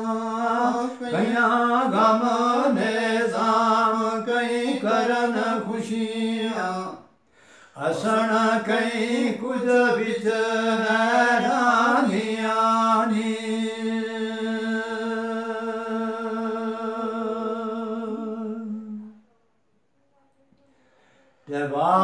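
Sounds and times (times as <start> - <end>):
man singing unaccompanied: 0.0 - 7.2, 7.8 - 19.2, 21.4 - 22.0.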